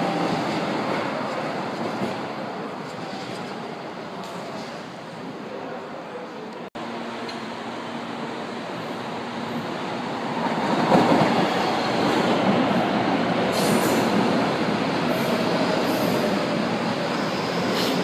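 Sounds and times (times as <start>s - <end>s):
metro train passing: 0.0s - 18.0s.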